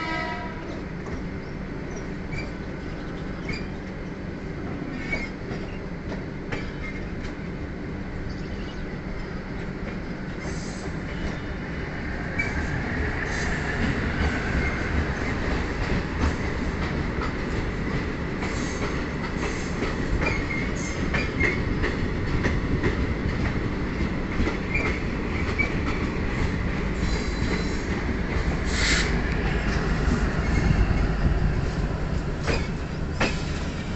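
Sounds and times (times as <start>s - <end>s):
train wheels rumbling on rail: 0.0s - 33.9s
rail joint clicks: 0.4s - 33.9s.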